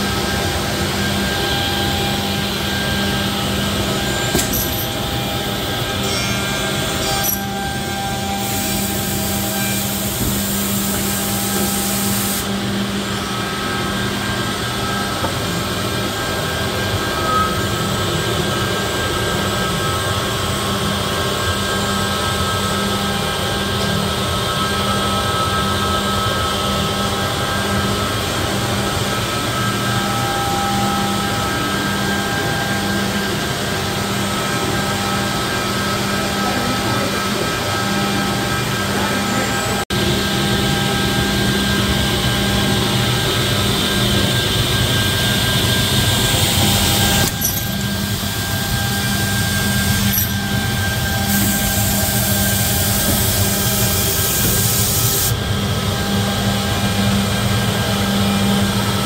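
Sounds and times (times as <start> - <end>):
dust extraction blower: 0.0 - 59.0
machine humming and whining: 0.0 - 59.0.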